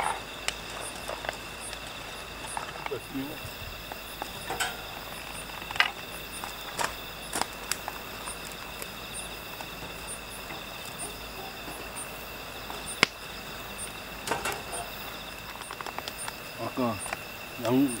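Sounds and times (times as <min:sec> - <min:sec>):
insects chirping: 0:00.0 - 0:18.0
wood fire crackling and popping: 0:00.0 - 0:18.0.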